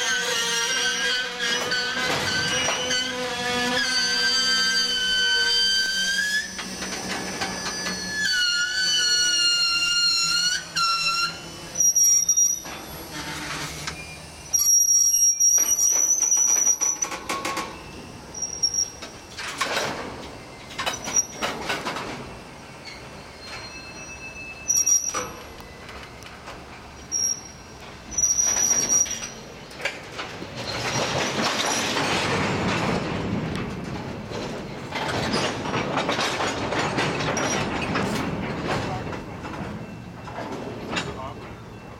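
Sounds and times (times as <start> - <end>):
wheels clicking over rail joints: 0.0 - 23.8, 24.7 - 41.9
rumble of rolling train: 0.0 - 41.9
train wheels squealing on rails: 0.0 - 41.9.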